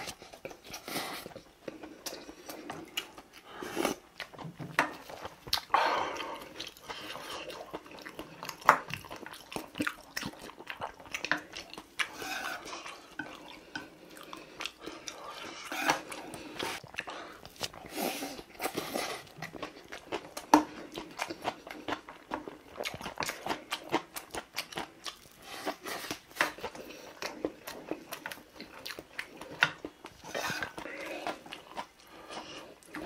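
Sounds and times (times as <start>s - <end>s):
chewing and wet mouth sounds: 0.0s - 33.0s.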